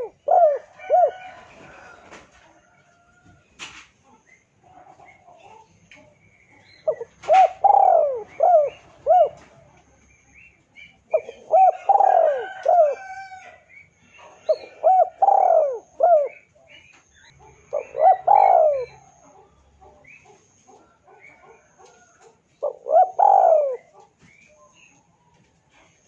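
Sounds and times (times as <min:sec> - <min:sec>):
dove cooing: 0:00.0 - 0:03.4, 0:04.6 - 0:09.8, 0:10.8 - 0:25.0
small birds chirping: 0:00.0 - 0:26.0.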